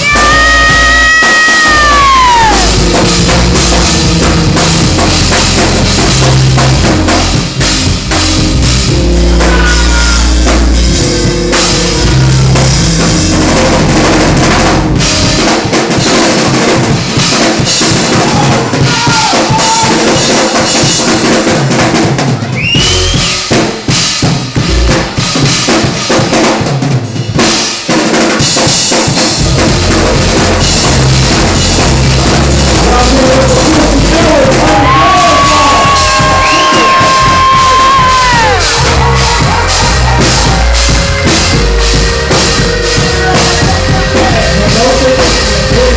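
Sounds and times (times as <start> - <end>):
loud drum and bass music: 0.0 - 45.9.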